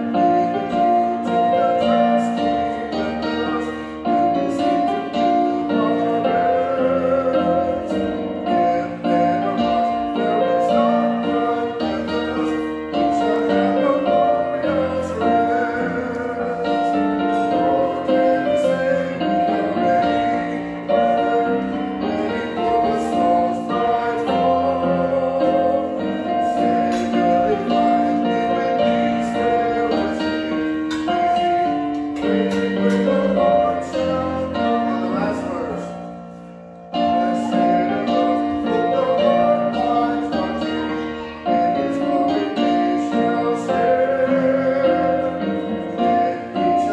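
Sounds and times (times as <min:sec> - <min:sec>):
congregation singing a hymn: 0:00.0 - 0:46.9
piano accompaniment: 0:00.0 - 0:46.9.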